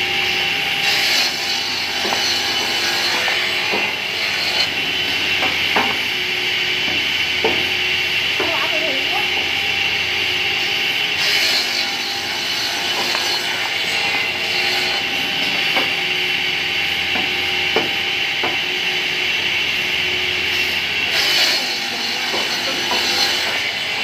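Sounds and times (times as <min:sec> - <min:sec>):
cutting saw whining: 0:00.0 - 0:24.0.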